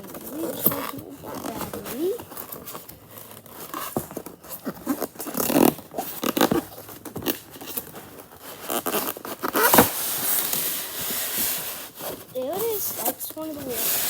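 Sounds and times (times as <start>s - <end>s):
packaging rustling and tearing: 0.0s - 14.0s.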